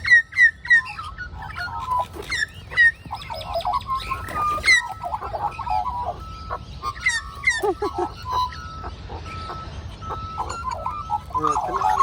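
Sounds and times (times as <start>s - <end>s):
magpies calling and warbling: 0.0s - 12.0s.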